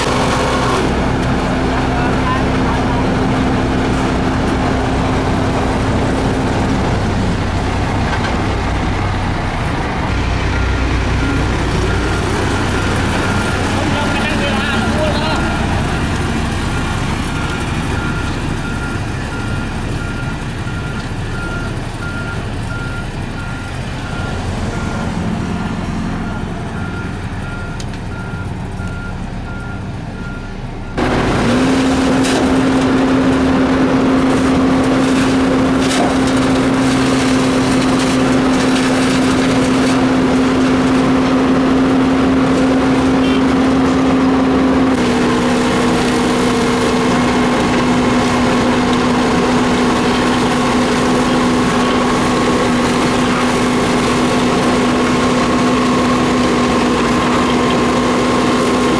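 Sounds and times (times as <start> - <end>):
heavy engine drone: 0.0 - 58.9
paving machinery engine rumble: 0.0 - 58.9.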